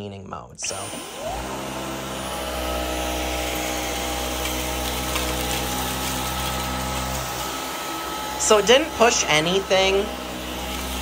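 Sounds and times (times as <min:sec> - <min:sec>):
vacuum cleaner motor whine: 0:00.6 - 0:11.0.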